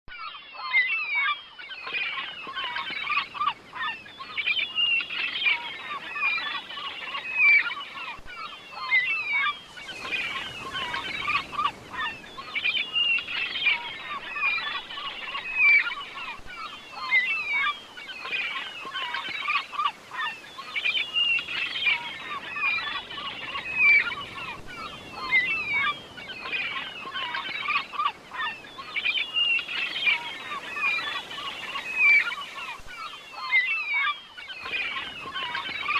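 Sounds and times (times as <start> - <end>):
flock of birds squawking: 0.1 - 35.9.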